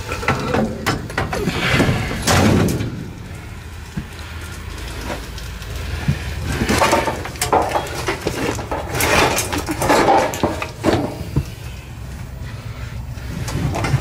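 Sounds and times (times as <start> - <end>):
clutter clattering and rustling: 0.0 - 3.3, 3.9 - 11.8, 13.3 - 14.0
steady low hum: 0.0 - 14.0.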